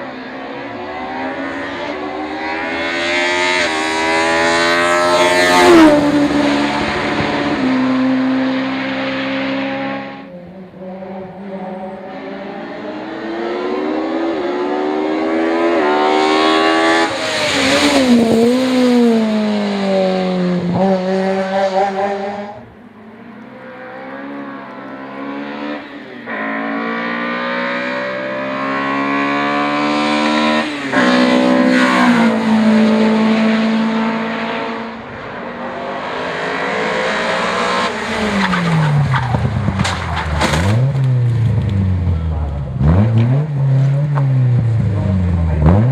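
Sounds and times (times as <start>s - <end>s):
car engine revving and upshifting: 0.0s - 45.9s.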